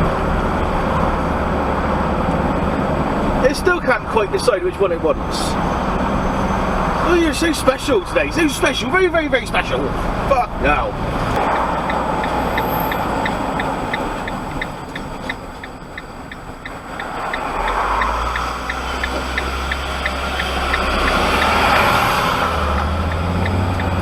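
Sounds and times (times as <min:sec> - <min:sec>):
truck engine and road noise: 0:00.0 - 0:24.0
turn signal ticking: 0:00.0 - 0:24.0.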